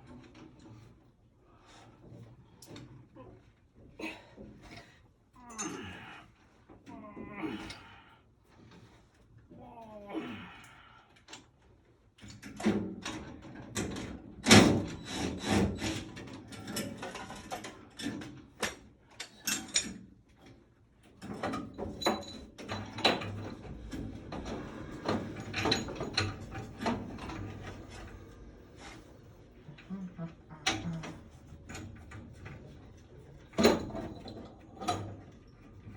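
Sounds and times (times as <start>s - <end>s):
hand tools and metal clatter: 0.0s - 7.9s, 12.2s - 35.9s.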